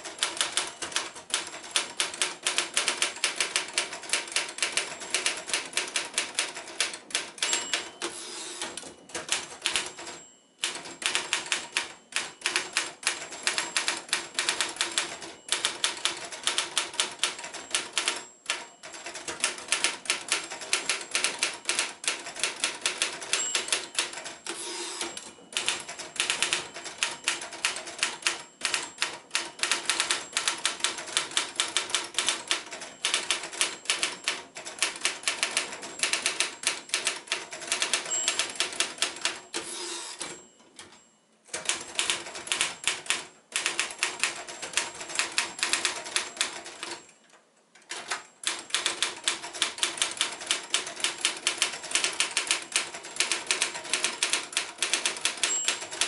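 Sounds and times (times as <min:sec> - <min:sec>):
manual typewriter typing: 0:00.0 - 0:56.0.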